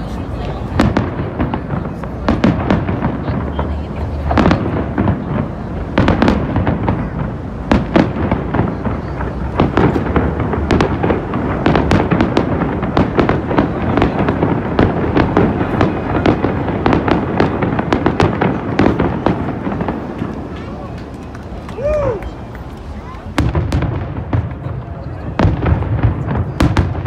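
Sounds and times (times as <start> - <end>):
continuous rumble: 0.0 - 27.0
fireworks bangs: 0.0 - 27.0.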